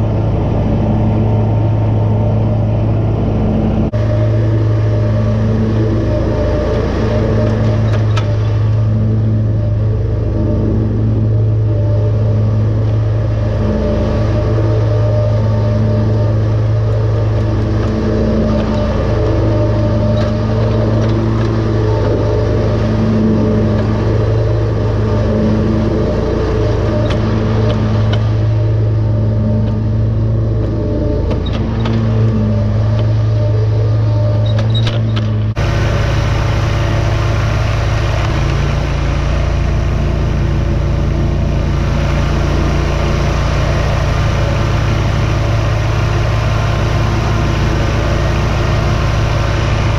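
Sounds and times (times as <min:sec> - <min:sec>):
mower engine droning: 0:00.0 - 0:49.9.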